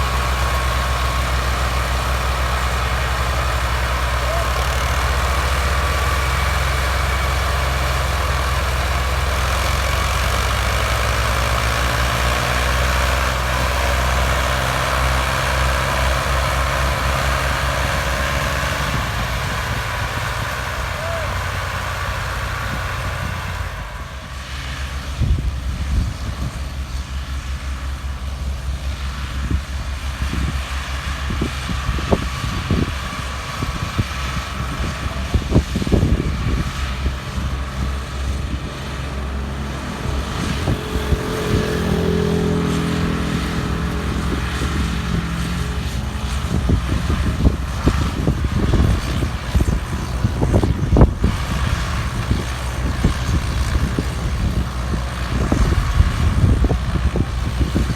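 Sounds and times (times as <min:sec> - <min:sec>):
tractor diesel engines under load: 0:00.0 - 0:57.9.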